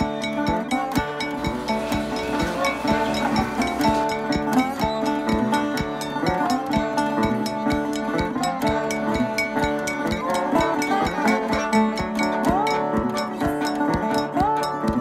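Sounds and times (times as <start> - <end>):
background music with steady beat: 0.0 - 15.0.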